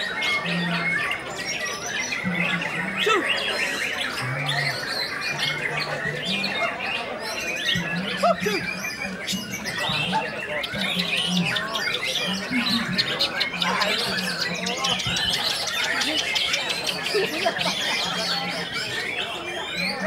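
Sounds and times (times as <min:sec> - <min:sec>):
songbirds chorus whistling and trilling: 0:00.0 - 0:20.0.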